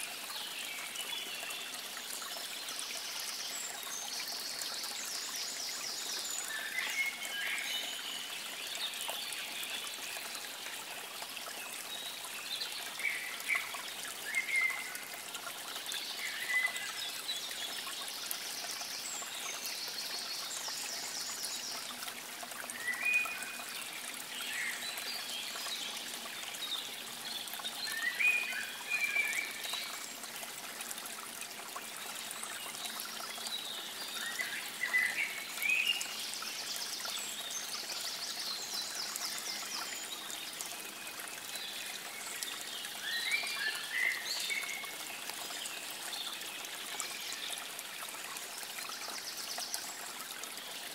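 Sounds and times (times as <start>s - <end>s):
trickle of running water: 0.0s - 50.9s.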